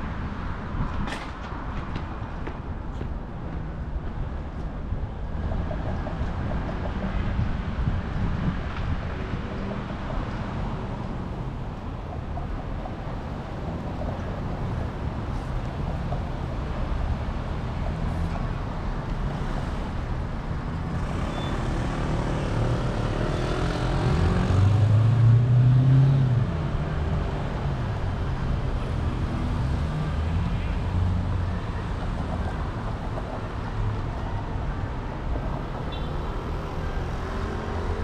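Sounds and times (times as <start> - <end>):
passing cars rumble: 0.0 - 38.0.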